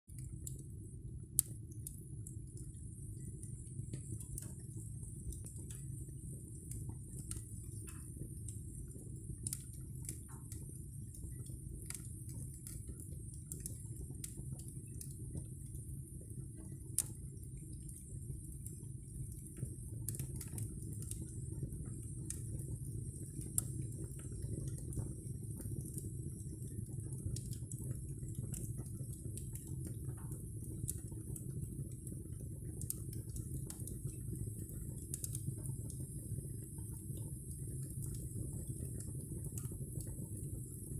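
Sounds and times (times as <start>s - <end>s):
low rumble of flames: 0.1s - 40.9s
wood crackling and popping: 0.1s - 40.9s.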